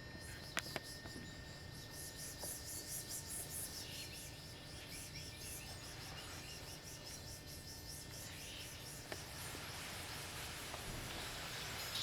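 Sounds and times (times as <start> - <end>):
rapid high-pitched chirping: 0.1 - 10.7.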